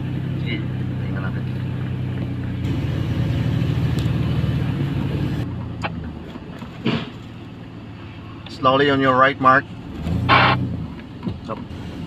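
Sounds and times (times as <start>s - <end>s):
car engine hum and road noise: 0.0s - 12.0s.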